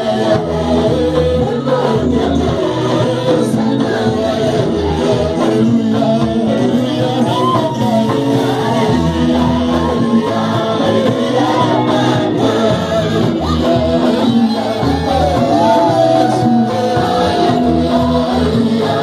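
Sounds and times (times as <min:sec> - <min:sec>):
drum kit: 0:00.0 - 0:19.0
electric guitar: 0:00.0 - 0:19.0
keyboard: 0:00.0 - 0:19.0
person singing into microphone: 0:00.0 - 0:19.0.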